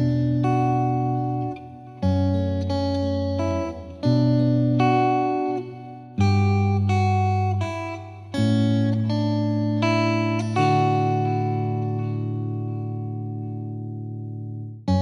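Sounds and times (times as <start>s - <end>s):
plucked guitar chords: 0.0s - 15.0s.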